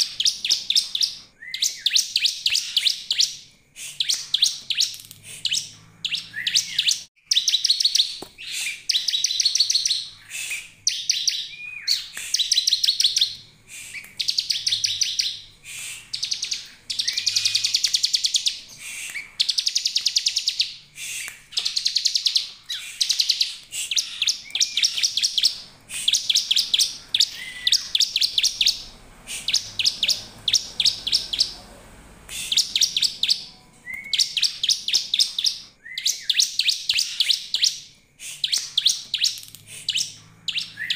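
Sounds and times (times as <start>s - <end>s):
bird singing fast trills: 0.0s - 40.9s.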